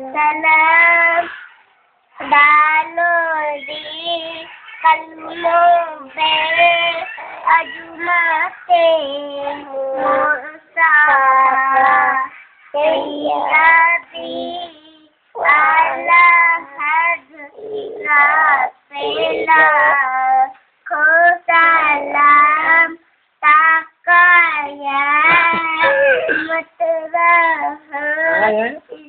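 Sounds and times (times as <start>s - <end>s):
child singing: 0.0s - 1.5s, 2.2s - 29.0s.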